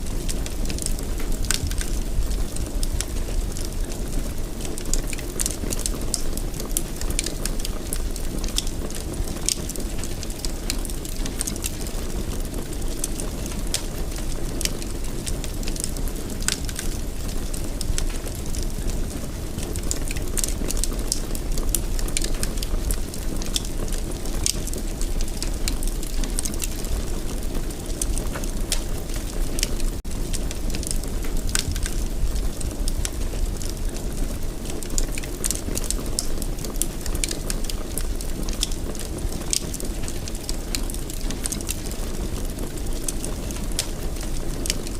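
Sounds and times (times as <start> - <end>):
fire burning in fireplace: 0.0 - 44.9.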